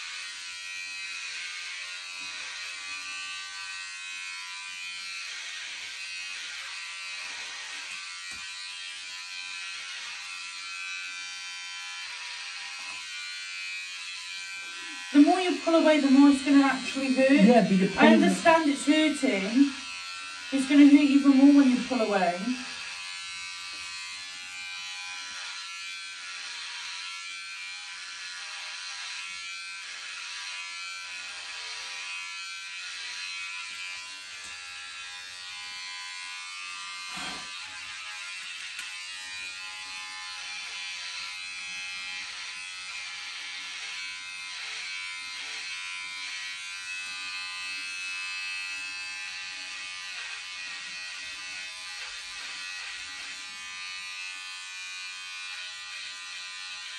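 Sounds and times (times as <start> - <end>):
electric hair clippers buzzing: 0.0 - 56.9.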